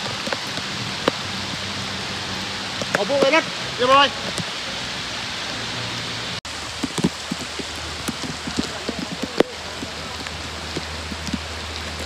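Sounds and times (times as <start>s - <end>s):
rain hissing: 0.0s - 12.0s
water drops and splashes: 0.0s - 12.0s.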